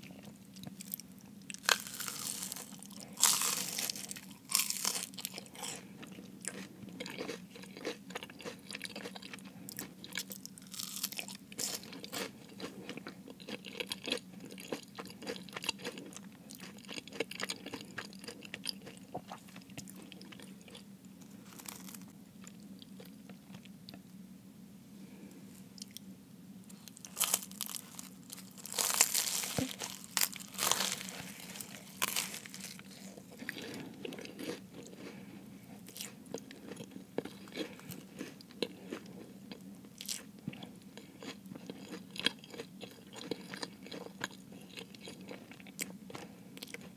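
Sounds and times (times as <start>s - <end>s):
chewing crunchy pastry: 0.0s - 24.1s, 26.7s - 46.9s.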